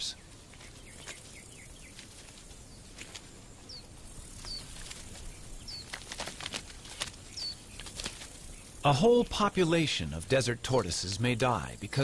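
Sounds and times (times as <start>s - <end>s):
bird chirping: 0.0s - 6.2s, 7.1s - 12.0s.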